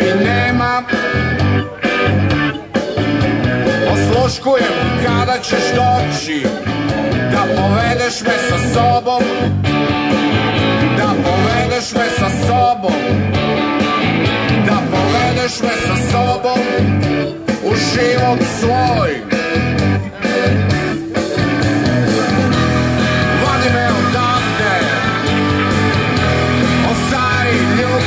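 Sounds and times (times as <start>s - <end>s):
rock music with guitar and bass: 0.0s - 28.0s.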